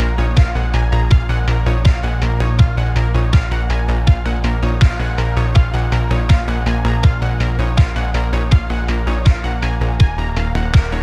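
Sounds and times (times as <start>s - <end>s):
electronic music with kick drum: 0.0s - 11.0s
sustained bass line: 0.0s - 11.0s.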